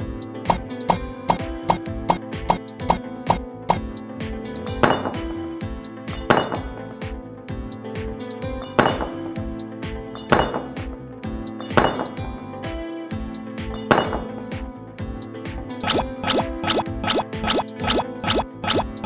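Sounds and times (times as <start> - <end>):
background music with beat: 0.0 - 19.0.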